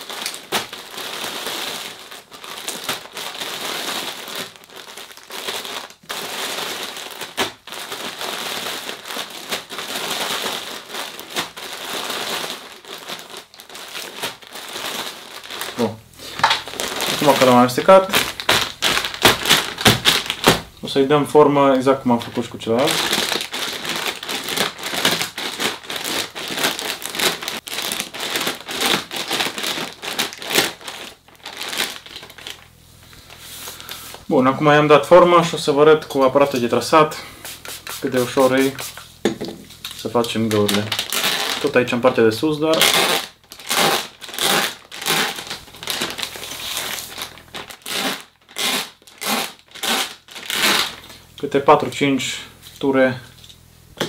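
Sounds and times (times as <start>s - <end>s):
pellets rustling in bag: 0.0s - 54.0s
plastic bag crinkling: 0.0s - 54.0s.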